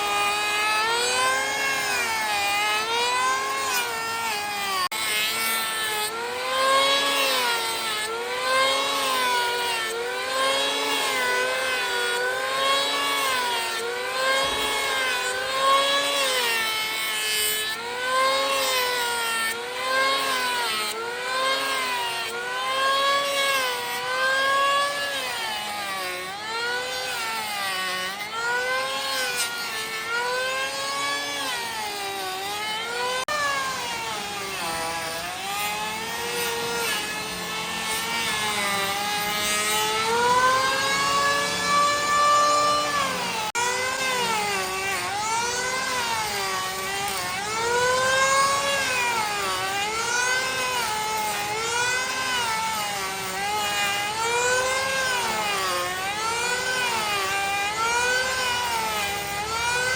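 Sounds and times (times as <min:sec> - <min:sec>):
power tool motor working wood: 0:00.0 - 0:59.9.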